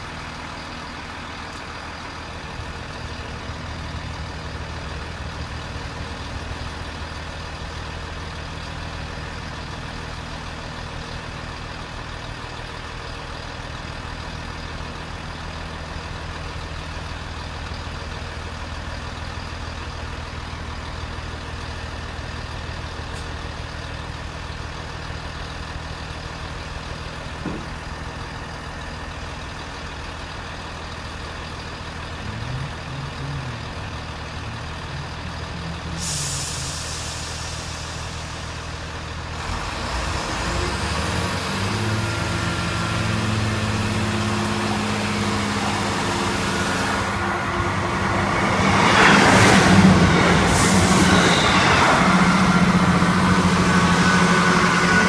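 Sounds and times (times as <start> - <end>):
diesel train engines idling: 0.0 - 55.0.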